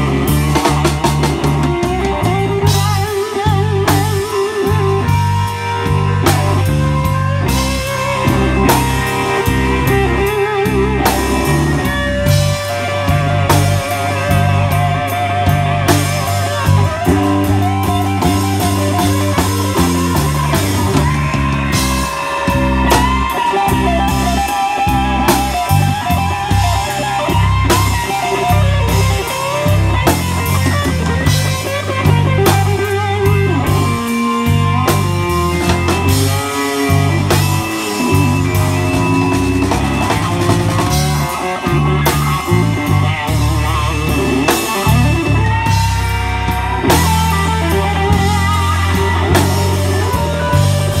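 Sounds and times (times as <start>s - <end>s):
drum kit: 0.0s - 51.0s
electric guitar lead with bent notes: 0.0s - 51.0s
stepping bass line: 0.0s - 51.0s.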